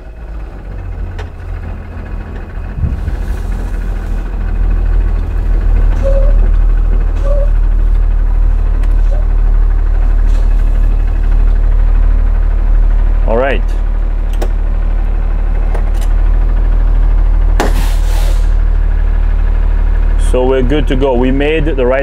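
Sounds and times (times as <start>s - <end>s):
diesel bus engine rumble: 0.0s - 22.0s.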